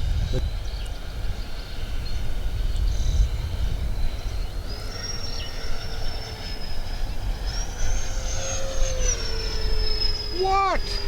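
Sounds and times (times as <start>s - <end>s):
model airplane motor whining: 0.0s - 11.0s
wind on microphone: 0.0s - 11.0s.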